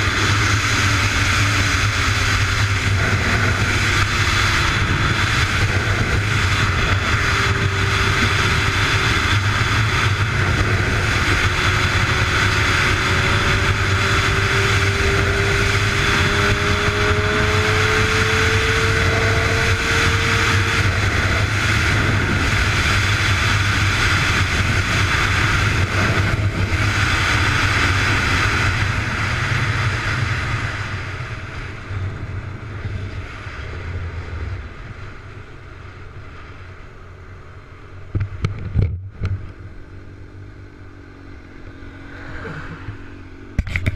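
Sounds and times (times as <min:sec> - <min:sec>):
road noise: 0:00.0 - 0:43.9
vehicle engine: 0:00.0 - 0:43.9.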